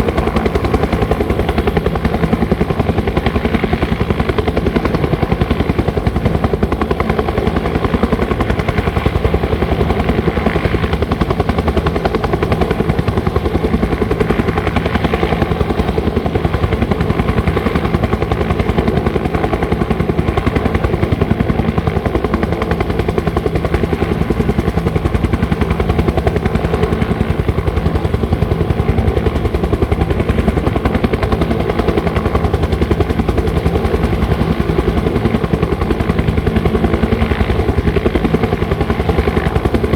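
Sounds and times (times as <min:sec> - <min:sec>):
helicopter engine running: 0:00.0 - 0:39.9
helicopter rotor beating: 0:00.0 - 0:39.9.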